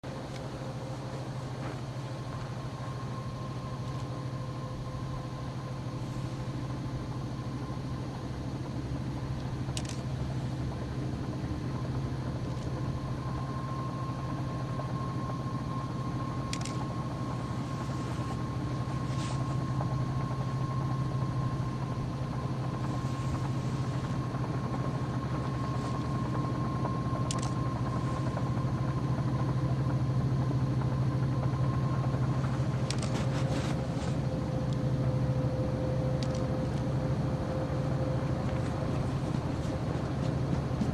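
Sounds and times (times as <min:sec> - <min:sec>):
low engine drone: 0:00.0 - 0:40.9
thin steady whine: 0:00.0 - 0:40.9.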